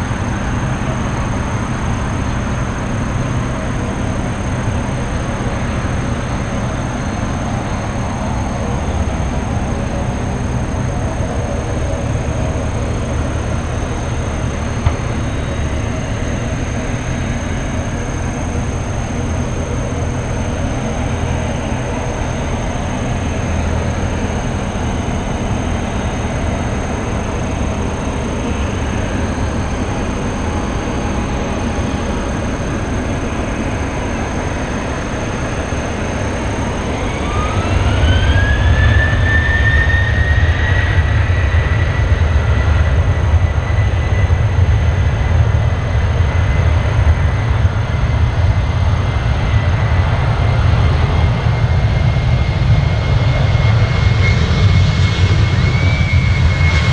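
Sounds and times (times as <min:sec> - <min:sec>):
jet engines spooling up: 0:00.0 - 0:56.9.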